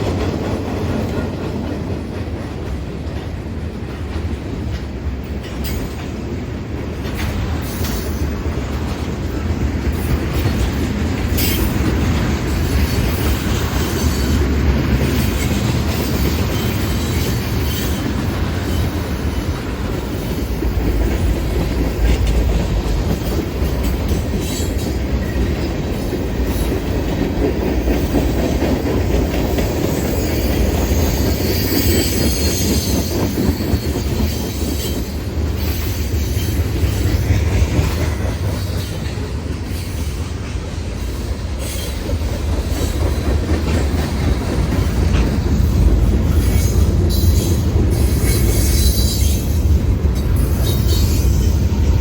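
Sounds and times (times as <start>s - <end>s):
freight train rumbling past: 0.0s - 52.0s
wheels clacking over rail joints: 0.0s - 52.0s
train wheel squeal: 5.3s - 6.4s, 7.0s - 52.0s.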